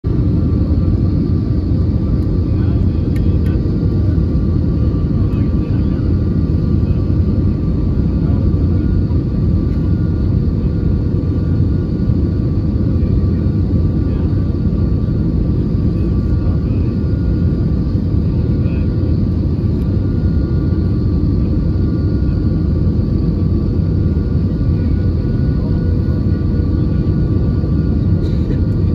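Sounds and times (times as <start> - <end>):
airplane cabin rumble: 0.0 - 28.9
faint whines: 0.1 - 28.9.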